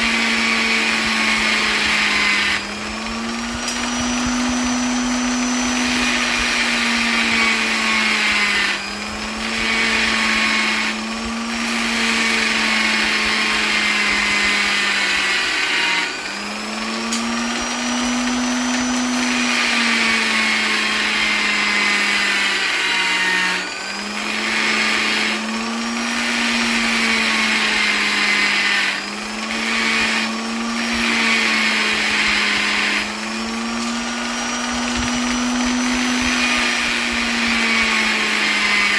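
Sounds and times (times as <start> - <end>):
electric polisher motor whining: 0.0 - 38.9.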